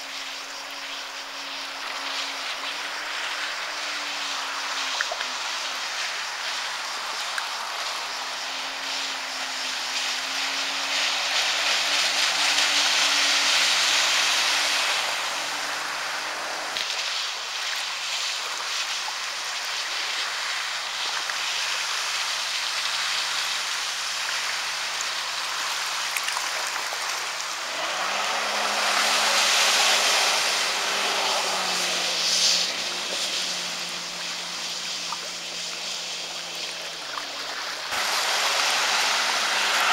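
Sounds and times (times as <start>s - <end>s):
personal watercraft engine: 0.0s - 39.9s
rushing hiss of water: 0.0s - 39.9s.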